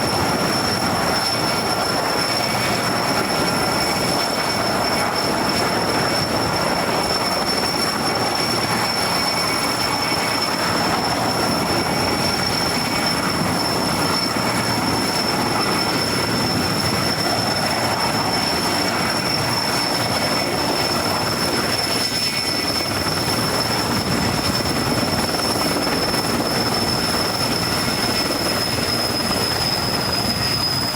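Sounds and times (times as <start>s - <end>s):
helicopter rotor and engine noise: 0.0s - 30.9s
high turbine whine: 0.0s - 30.9s.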